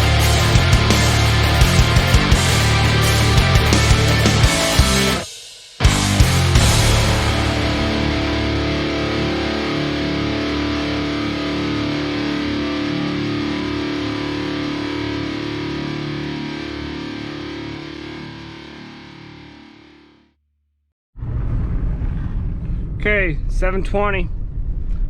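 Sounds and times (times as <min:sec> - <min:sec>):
rock music with electric guitar: 0:00.0 - 0:20.2.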